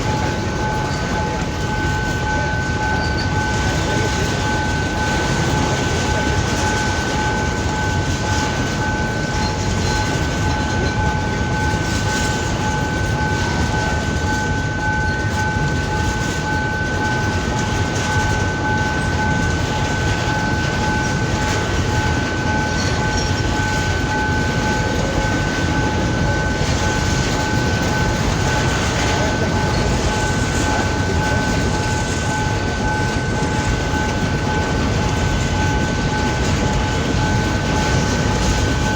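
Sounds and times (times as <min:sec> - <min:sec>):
train wagons rumbling on rails: 0:00.0 - 0:38.9.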